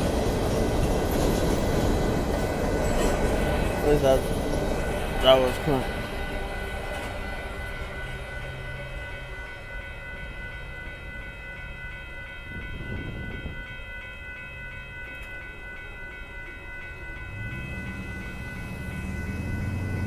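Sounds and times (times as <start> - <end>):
crossing warning bell ringing: 0.0 - 20.0
low rail traffic: 0.0 - 20.0.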